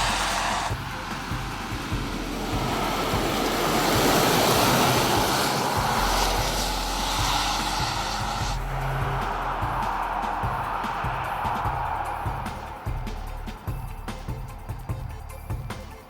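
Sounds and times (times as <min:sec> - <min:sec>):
car driving by: 0:00.0 - 0:14.0.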